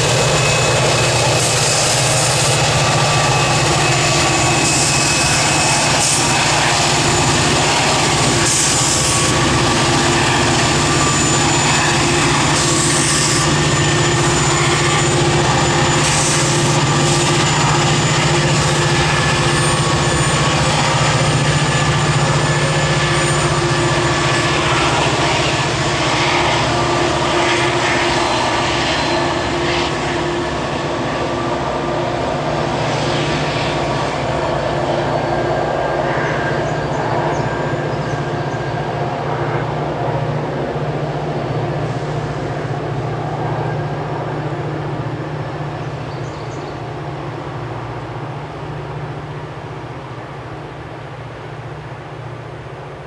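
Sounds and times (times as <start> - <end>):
diesel locomotive engine drone: 0.0 - 53.0
steady whining tones: 0.0 - 53.0.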